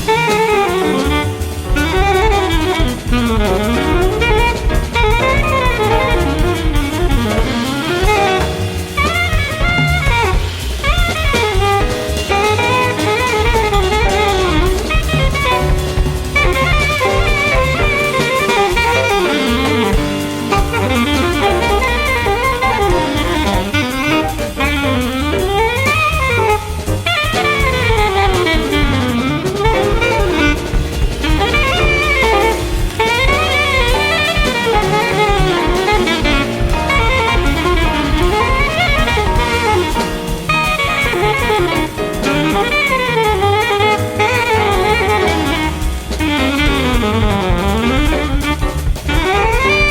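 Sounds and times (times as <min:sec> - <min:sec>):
drum kit: 0:00.0 - 0:49.9
piano: 0:00.0 - 0:49.9
soprano saxophone runs: 0:00.0 - 0:49.9.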